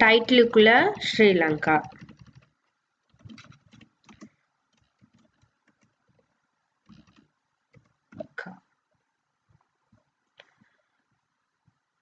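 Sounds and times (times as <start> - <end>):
faint keyboard typing: 0.0 - 12.0.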